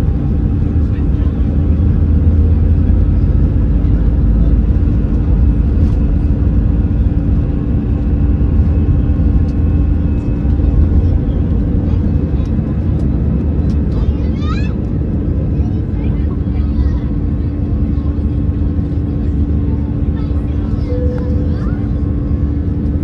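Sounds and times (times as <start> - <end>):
jet engine cabin rumble: 0.0 - 23.0.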